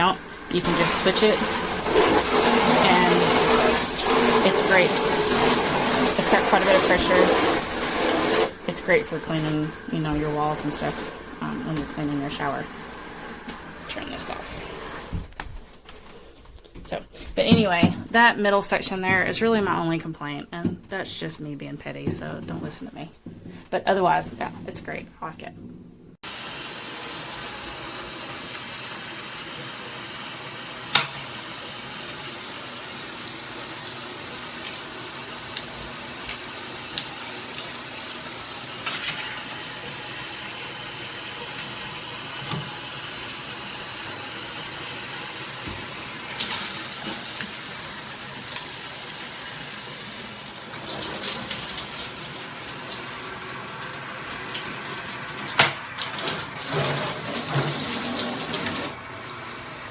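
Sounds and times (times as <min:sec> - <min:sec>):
shower water spraying: 0:00.0 - 0:15.2, 0:26.2 - 0:59.9.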